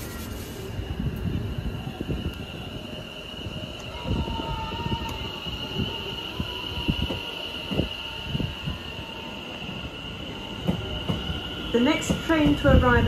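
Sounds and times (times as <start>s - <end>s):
train rumbling: 0.0s - 13.0s
train whine: 0.0s - 13.0s.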